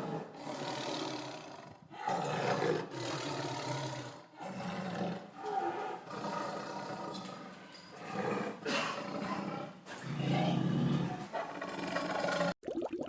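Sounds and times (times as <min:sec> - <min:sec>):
large animal roaring: 0:00.0 - 0:07.4, 0:08.0 - 0:12.5.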